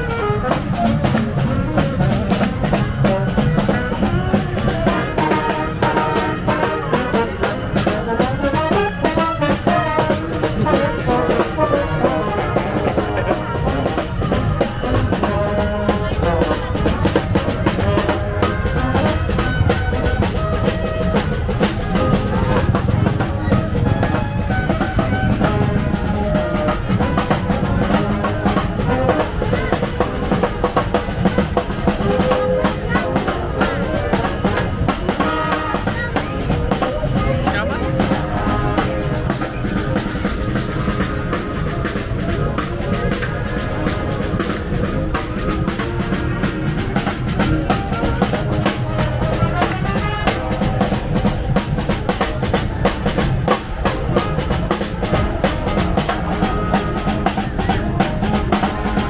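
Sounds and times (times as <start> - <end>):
brass and saxophone playing: 0.0 - 59.0
steady drum beat: 0.0 - 59.0.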